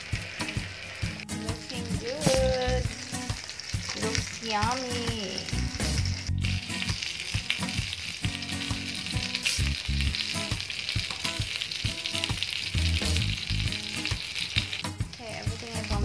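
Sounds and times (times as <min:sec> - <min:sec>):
meat sizzling and popping: 0:00.0 - 0:16.0.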